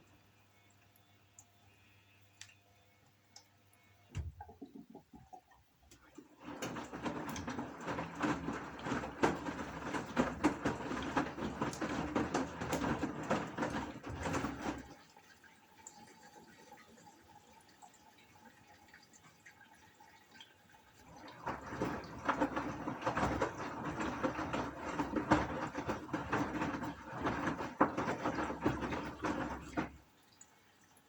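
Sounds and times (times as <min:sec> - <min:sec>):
water splashing into washing machine: 0:04.1 - 0:31.0.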